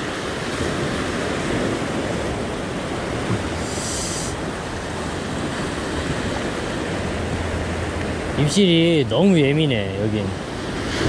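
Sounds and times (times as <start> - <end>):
surf breaking against rocks: 0.0 - 11.0.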